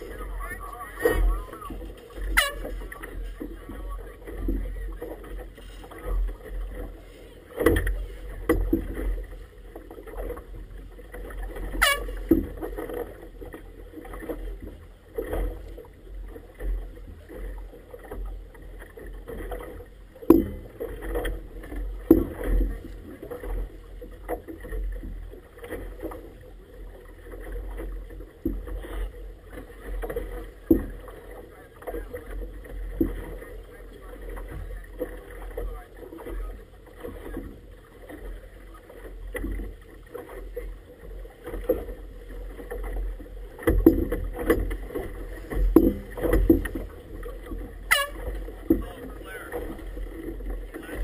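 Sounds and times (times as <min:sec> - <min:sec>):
water slapping inflatable boat hull: 0:00.0 - 0:51.0.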